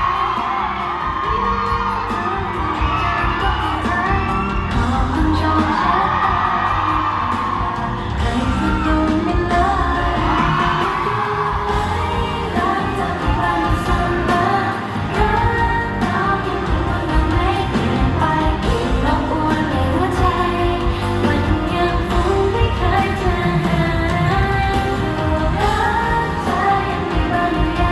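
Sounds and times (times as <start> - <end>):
person singing pop song: 0.0 - 27.9
steady bass beat: 0.0 - 27.9.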